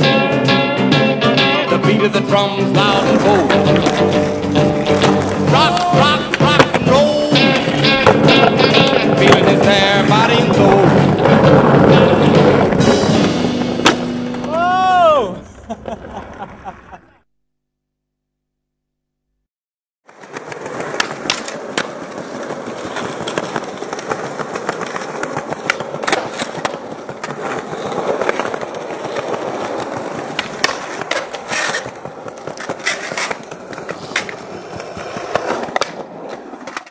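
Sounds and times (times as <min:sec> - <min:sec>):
skateboard clacks: 0:00.0 - 0:14.8, 0:20.1 - 0:36.9
skateboard wheels rolling on concrete: 0:00.0 - 0:17.3, 0:20.0 - 0:36.9.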